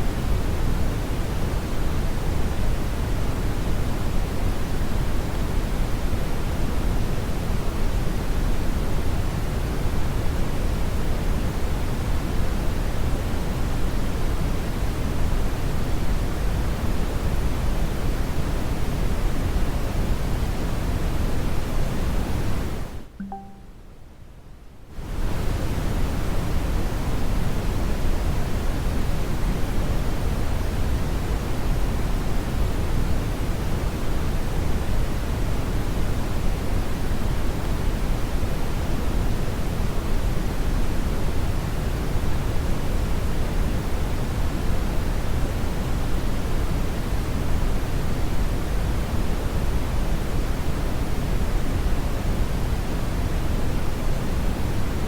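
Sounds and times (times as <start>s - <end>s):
brown noise hiss: 0.0s - 23.0s, 24.9s - 55.0s.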